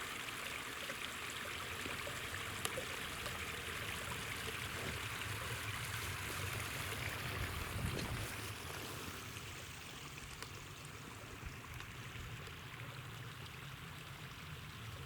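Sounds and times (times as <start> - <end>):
stream babbling over waterfall: 0.0 - 15.0.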